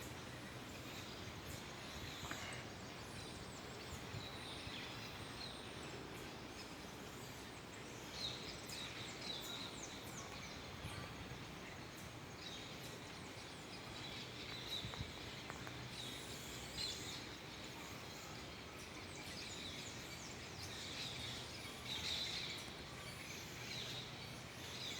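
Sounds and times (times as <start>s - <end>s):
outdoor background hiss: 0.0s - 24.9s.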